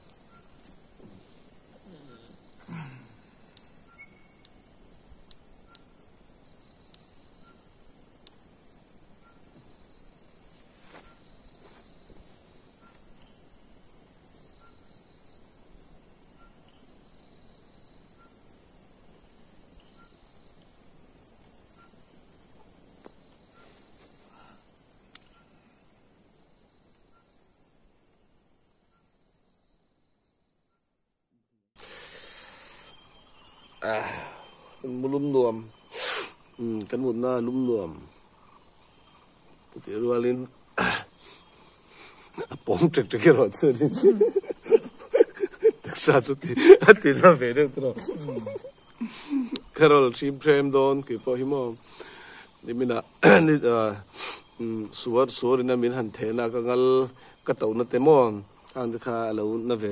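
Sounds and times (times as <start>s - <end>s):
crickets trilling: 0.0s - 31.1s, 31.8s - 59.9s
fainter lower insect call: 0.0s - 59.9s.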